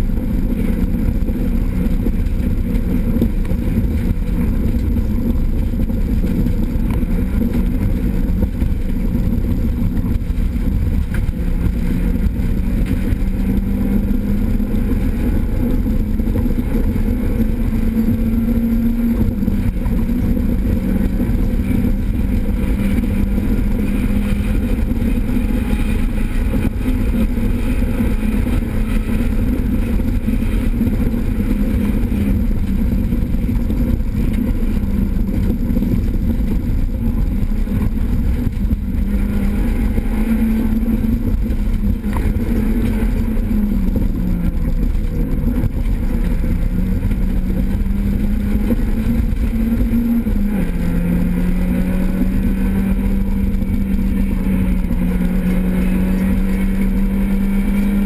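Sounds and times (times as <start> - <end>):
car engine at high revs: 0.0 - 58.0
road noise: 0.0 - 58.0.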